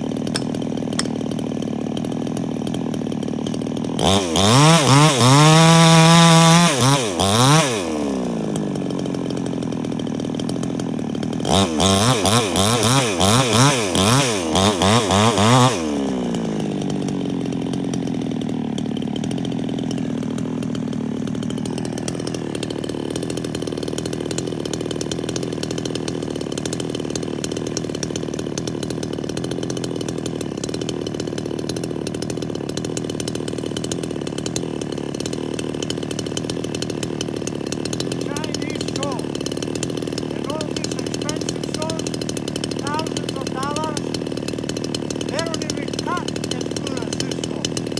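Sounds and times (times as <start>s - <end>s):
chainsaw revving and idling: 0.0s - 47.9s.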